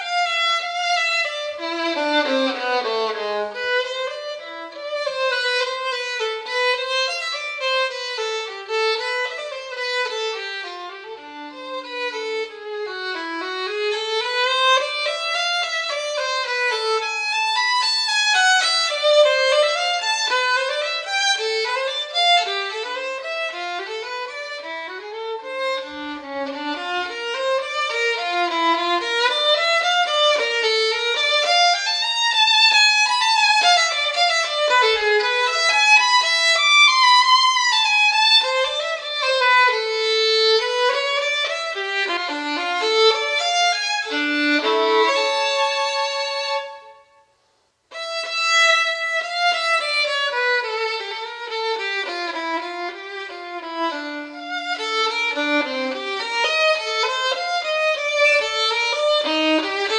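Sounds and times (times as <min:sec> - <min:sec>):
solo violin playing: 0:00.0 - 0:59.9.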